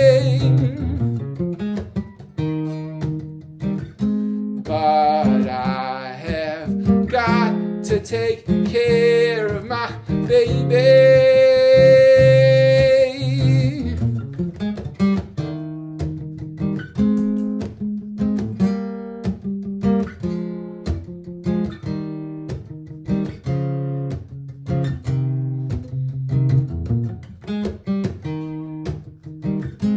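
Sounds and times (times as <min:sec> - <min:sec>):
acoustic guitar chords: 0:00.0 - 0:29.9.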